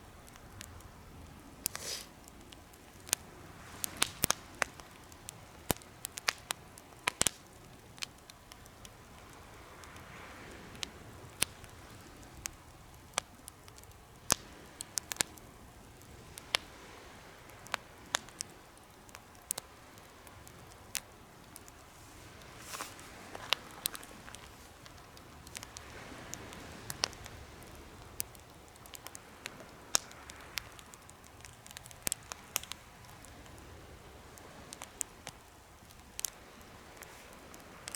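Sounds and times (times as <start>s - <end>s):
campfire crackling: 0.0s - 37.9s
faint steady hiss: 0.0s - 37.9s.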